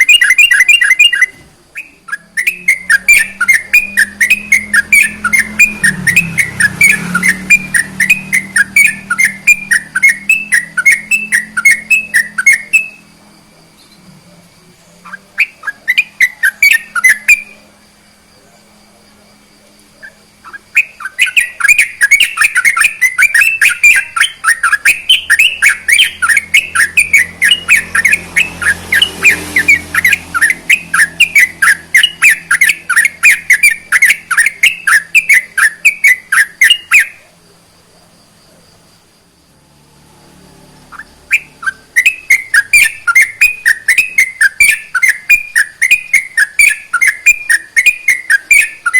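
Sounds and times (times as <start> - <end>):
bird singing rapid repeated notes: 0.0 - 48.9.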